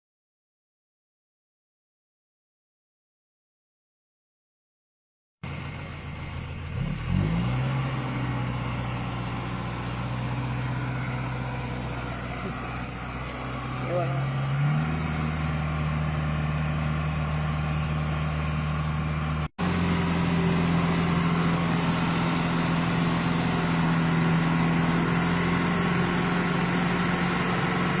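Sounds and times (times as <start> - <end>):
vehicle engine running: 5.4 - 28.0.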